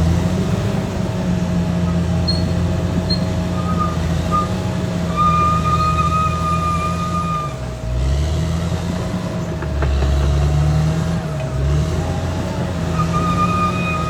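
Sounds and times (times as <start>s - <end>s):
bulldozer diesel engine working: 0.0s - 14.0s.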